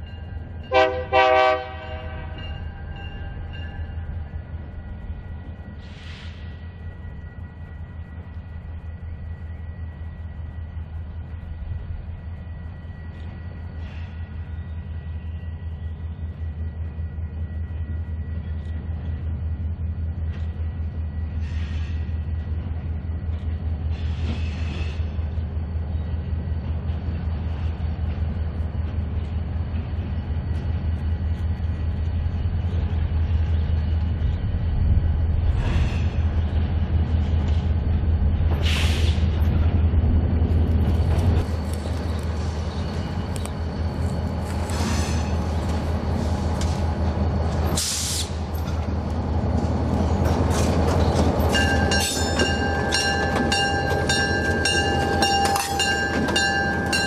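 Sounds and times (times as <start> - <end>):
diesel locomotive engines rumbling: 0.0 - 57.0.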